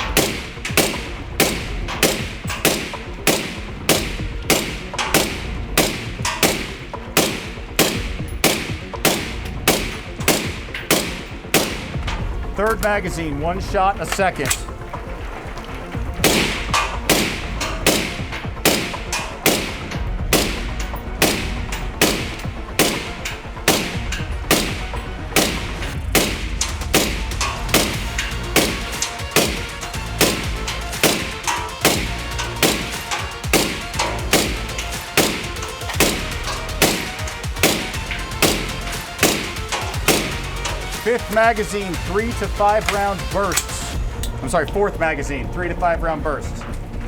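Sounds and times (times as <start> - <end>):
suppressed rifle single shots: 0.0 - 12.4, 16.2 - 41.8.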